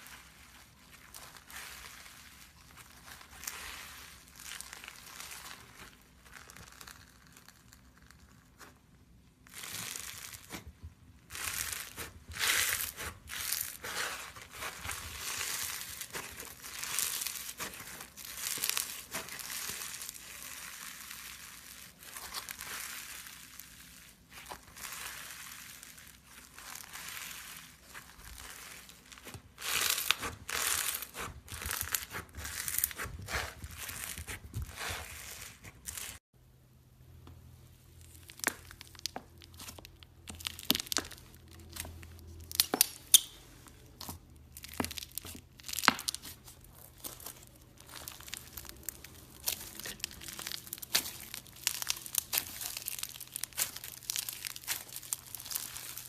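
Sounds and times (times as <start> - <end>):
crunchy slime crackling and popping: 0.0 - 36.3, 37.9 - 56.0.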